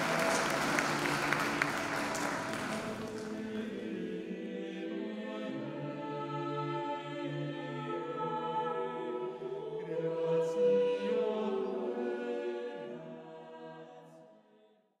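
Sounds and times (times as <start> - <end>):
choir singing held chords: 0.0 - 14.4.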